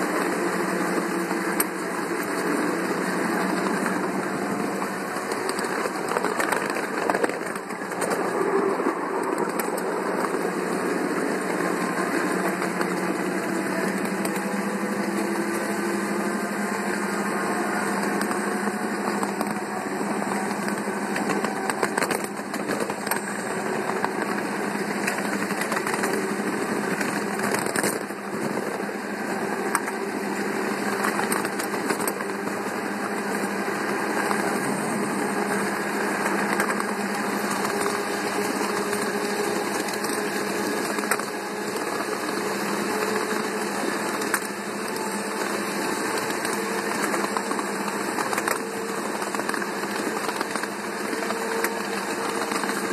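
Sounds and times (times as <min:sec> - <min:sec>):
wheels clicking on rails: 0:00.0 - 0:52.9.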